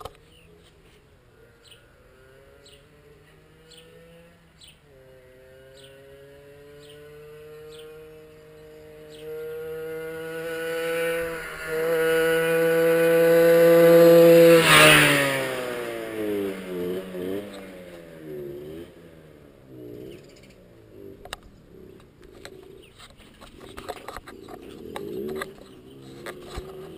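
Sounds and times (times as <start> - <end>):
moped engine passing by: 0.0 - 26.9.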